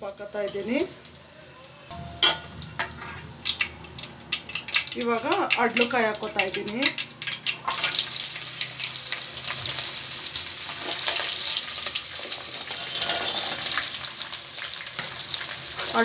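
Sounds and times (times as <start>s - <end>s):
oil sizzling in a pot: 0.0s - 16.0s.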